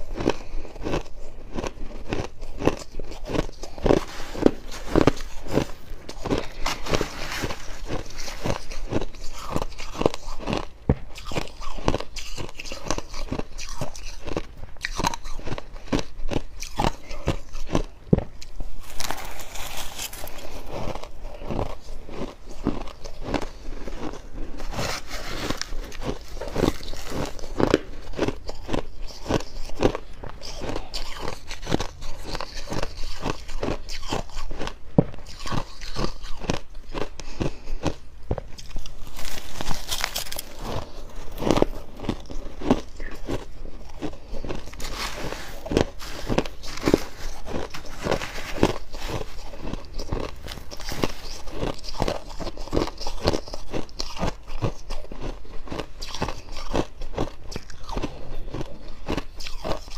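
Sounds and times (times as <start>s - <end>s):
crunchy frost chewing: 0.0s - 59.9s.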